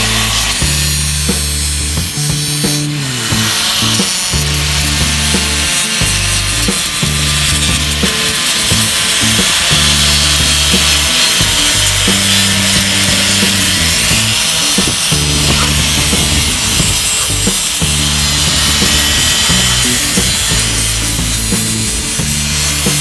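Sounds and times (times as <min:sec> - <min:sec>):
abrasive power tool hissing: 0:00.0 - 0:23.0
background music with bass line: 0:00.0 - 0:23.0.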